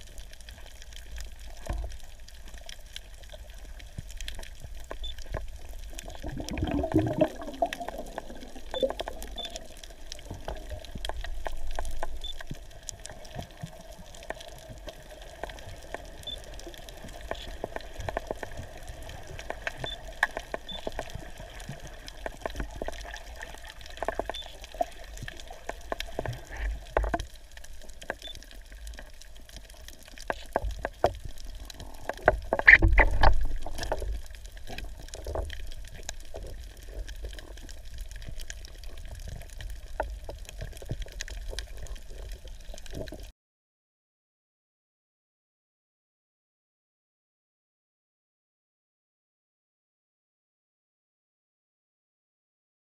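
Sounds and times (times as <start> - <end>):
crackling clicks: 0.0 - 43.3
underwater hiss and hum: 0.0 - 43.3.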